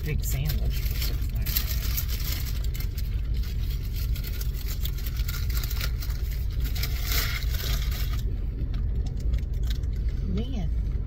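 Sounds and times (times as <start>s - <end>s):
paper wrapper crinkling: 0.0s - 10.2s
car engine idling: 0.0s - 11.0s.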